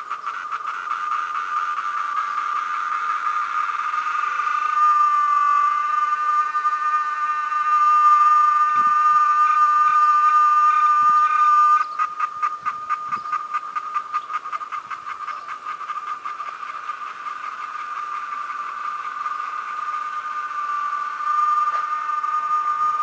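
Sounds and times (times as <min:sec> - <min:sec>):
cicada buzzing: 0:00.0 - 0:23.0.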